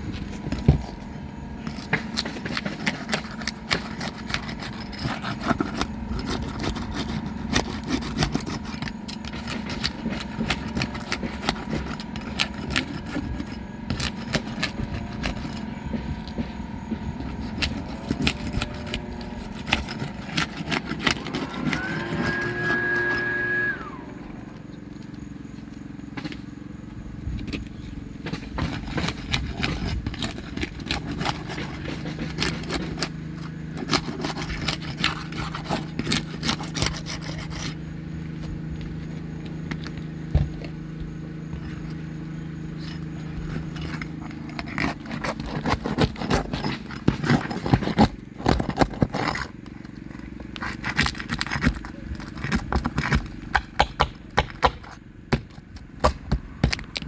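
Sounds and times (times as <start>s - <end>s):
roofing tool scraping and clicking: 0.0s - 26.6s, 27.2s - 57.0s
steady low hum: 0.0s - 57.0s.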